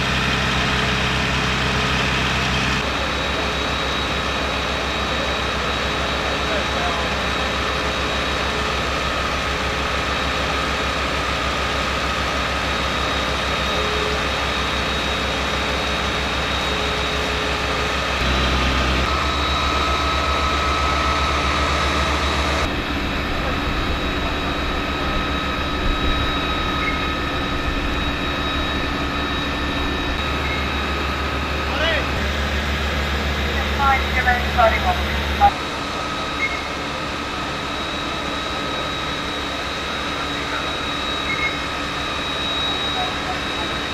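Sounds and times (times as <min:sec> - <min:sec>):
diesel engines and pumps droning: 0:00.0 - 0:43.9
thin steady whine: 0:00.0 - 0:43.9.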